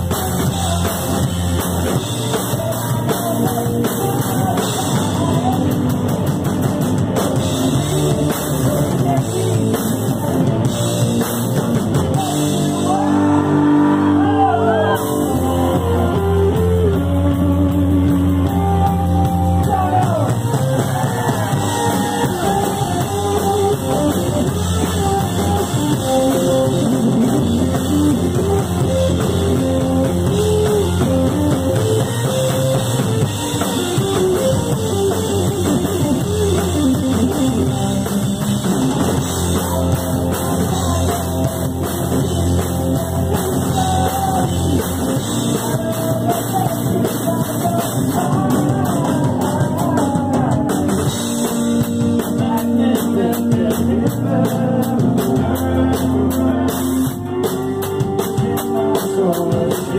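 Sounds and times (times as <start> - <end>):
lead vocal singing: 0.0 - 6.2, 7.4 - 59.9
bass guitar: 0.0 - 59.9
drum kit: 0.0 - 59.9
electric guitar: 0.0 - 59.9.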